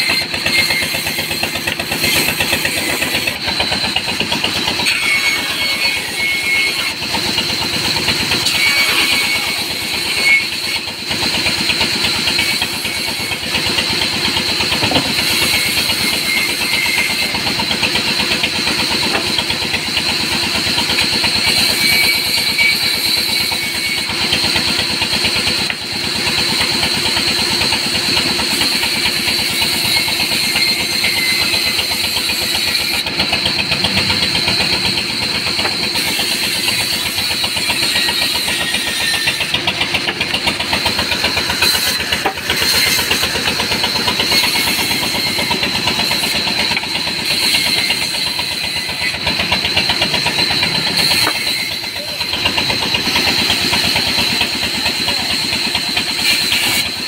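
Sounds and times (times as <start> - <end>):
band saw sawing a log: 0.0 - 57.0.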